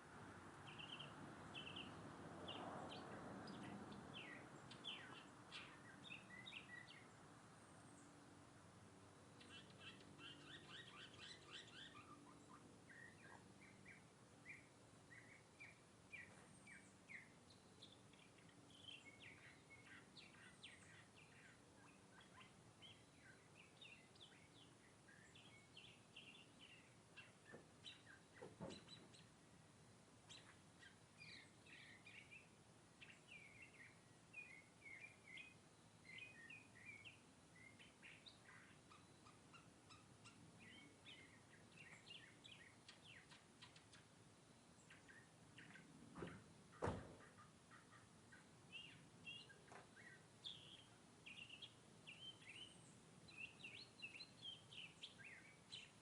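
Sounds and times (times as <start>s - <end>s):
faint low hum: 0.0s - 56.0s
mockingbird singing: 0.6s - 7.2s, 9.4s - 29.4s, 30.2s - 46.0s, 46.7s - 56.0s.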